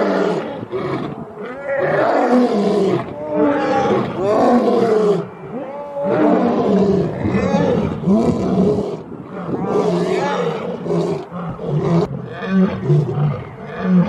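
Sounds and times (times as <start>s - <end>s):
lion roaring: 0.0s - 14.0s.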